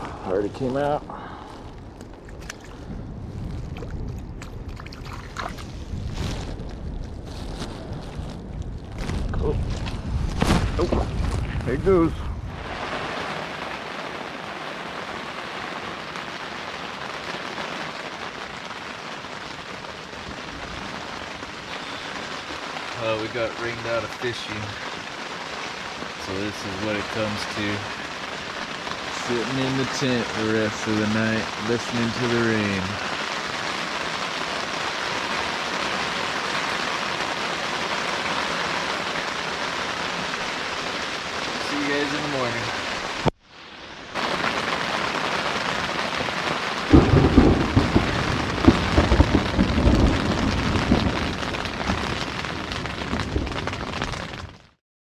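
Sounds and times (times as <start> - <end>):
rain falling on a tent: 0.0 - 54.8.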